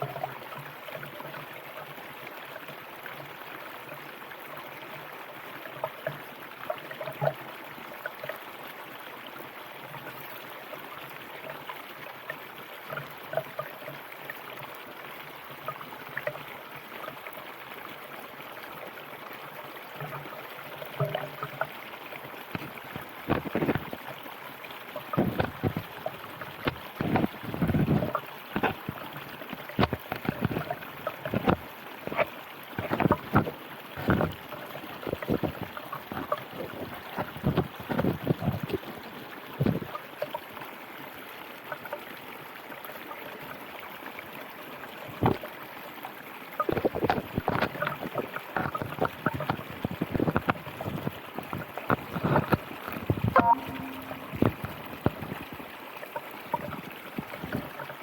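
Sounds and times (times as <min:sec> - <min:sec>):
river water running: 0:00.0 - 0:58.0
water splashes and gurgles: 0:00.0 - 0:58.0.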